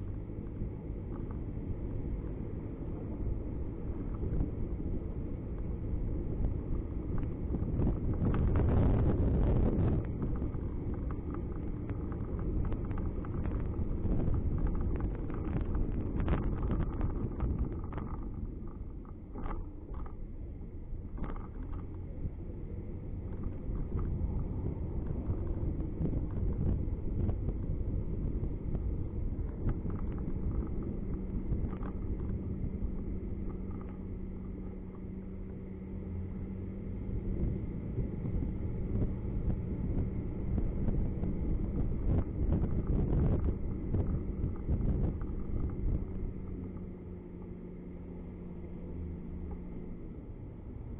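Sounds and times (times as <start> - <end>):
road and engine rumble: 0.0 - 50.9
steady hum: 0.0 - 50.9.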